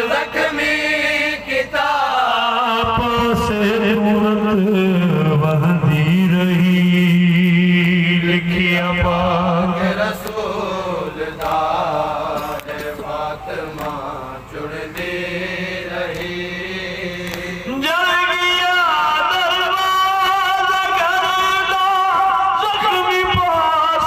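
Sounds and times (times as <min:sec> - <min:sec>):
man chanting through a microphone: 0:00.0 - 0:24.0.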